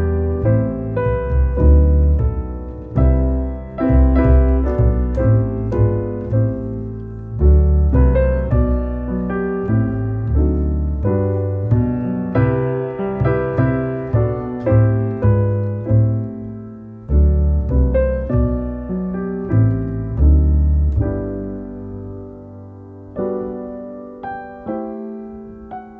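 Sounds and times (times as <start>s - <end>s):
slow gentle piano piece: 0.0s - 25.9s.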